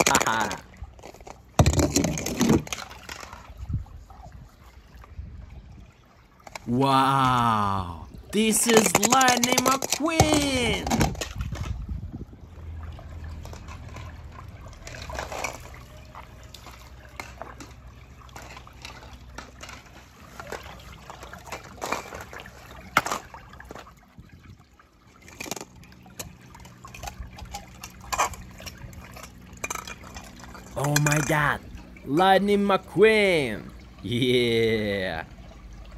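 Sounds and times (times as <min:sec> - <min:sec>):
water splashing and dripping: 0:00.0 - 0:35.9.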